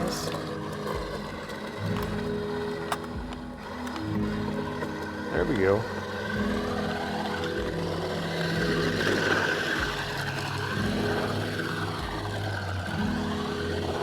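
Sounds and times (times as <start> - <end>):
toy truck motor whirring: 0.0 - 14.0.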